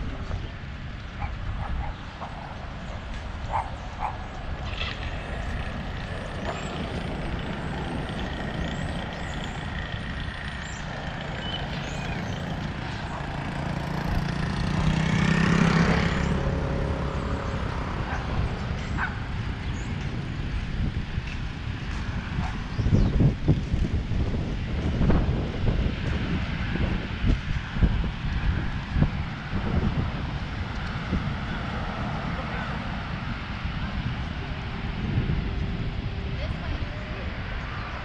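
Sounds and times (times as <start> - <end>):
steady wind noise: 0.0 - 38.0
motor scooter engine passing: 2.2 - 38.0.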